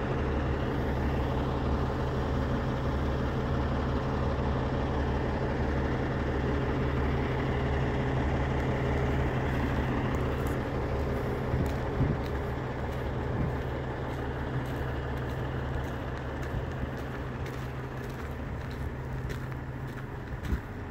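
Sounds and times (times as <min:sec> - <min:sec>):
diesel truck engine idling: 0:00.0 - 0:20.9.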